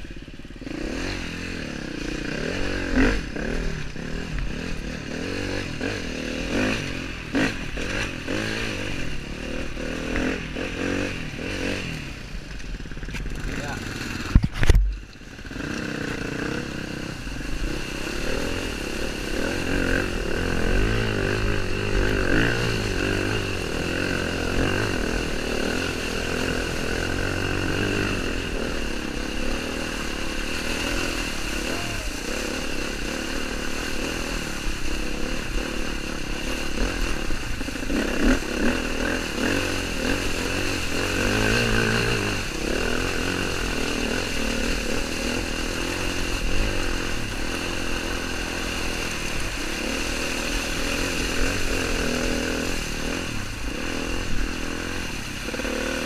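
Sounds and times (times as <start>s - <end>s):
dirt bike engine running: 0.0s - 56.0s
water splashing: 1.2s - 56.0s.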